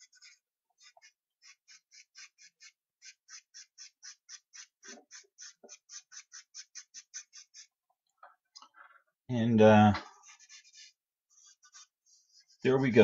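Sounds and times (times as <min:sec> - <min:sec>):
charcoal scratching on paper: 0:00.0 - 0:07.7, 0:10.1 - 0:13.0.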